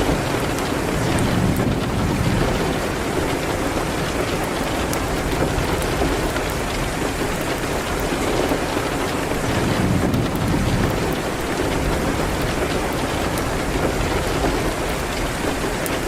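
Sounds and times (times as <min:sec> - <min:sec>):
rain hitting a window: 0:00.0 - 0:16.0.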